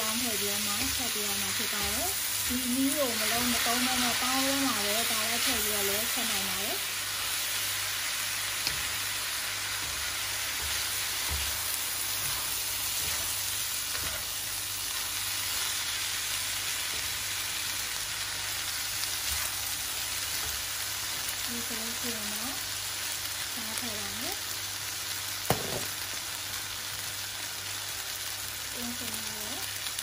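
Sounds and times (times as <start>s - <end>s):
rice sizzling in a wok: 0.0s - 30.0s.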